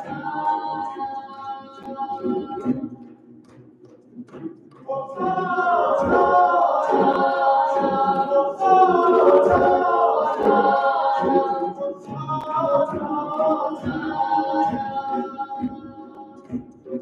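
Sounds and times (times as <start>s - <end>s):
choir singing a cappella: 0.0s - 3.2s, 4.7s - 17.0s
hand claps: 0.0s - 17.0s.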